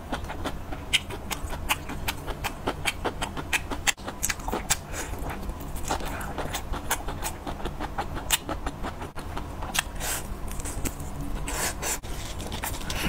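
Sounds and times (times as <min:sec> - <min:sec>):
chewing meat: 0:00.0 - 0:13.0.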